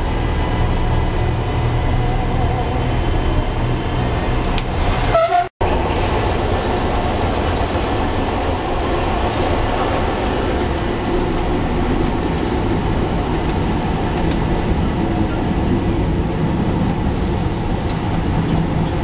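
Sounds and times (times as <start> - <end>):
railcar engine and wheels rumbling: 0.0 - 19.0.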